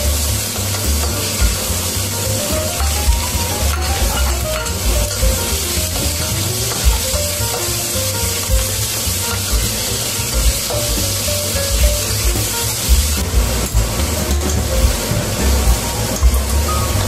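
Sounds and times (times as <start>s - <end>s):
background music: 0.0s - 17.0s
food sizzling in a wok: 0.0s - 17.0s.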